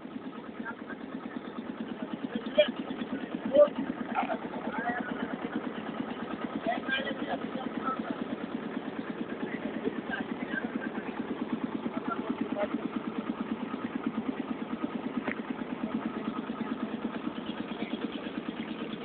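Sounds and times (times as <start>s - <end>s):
boat engine pulsing: 0.0s - 19.0s
water churning along hull: 0.0s - 19.0s.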